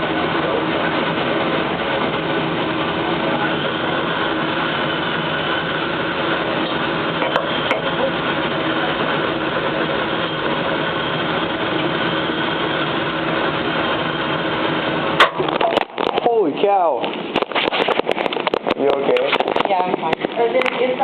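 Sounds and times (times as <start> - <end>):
exhaust fan whirring: 0.0 - 21.0.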